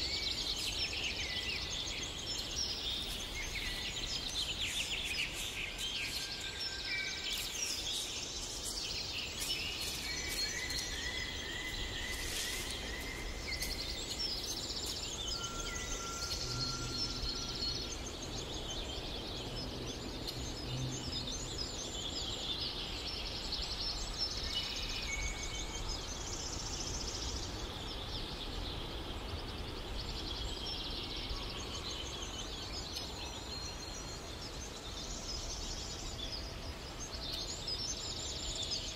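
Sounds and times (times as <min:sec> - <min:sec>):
birds chirping and trilling: 0:00.0 - 0:38.9
low background noise: 0:00.0 - 0:38.9.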